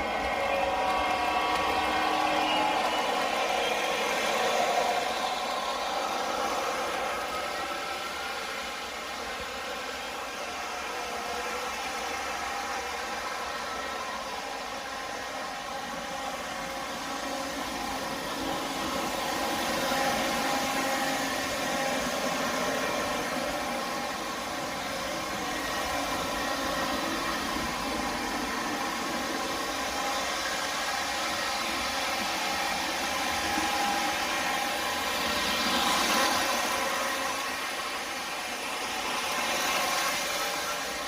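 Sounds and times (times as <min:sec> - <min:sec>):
model train diesel engine sounds: 0:00.0 - 0:41.0
whir of model train wheels: 0:00.0 - 0:41.0.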